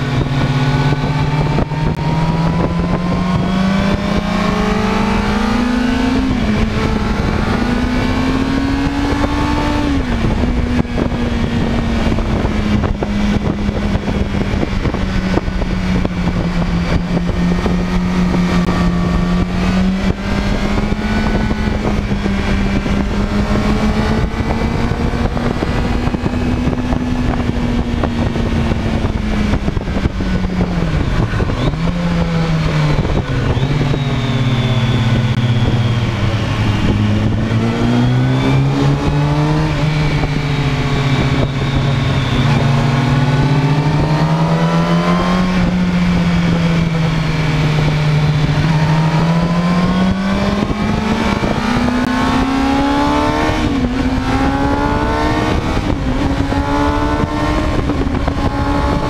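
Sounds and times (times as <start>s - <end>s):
motorcycle engine revving: 0.0s - 59.0s
wind rushing over microphone: 0.0s - 59.0s.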